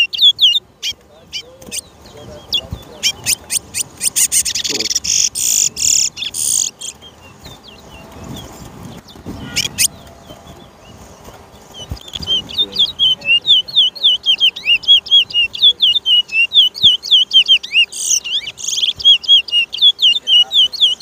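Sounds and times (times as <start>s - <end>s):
songbird whistling: 0.0s - 11.0s, 11.7s - 21.0s.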